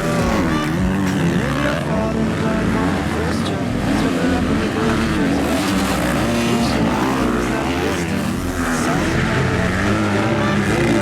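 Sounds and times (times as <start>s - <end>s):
motocross motorcycle engines revving: 0.0s - 11.0s.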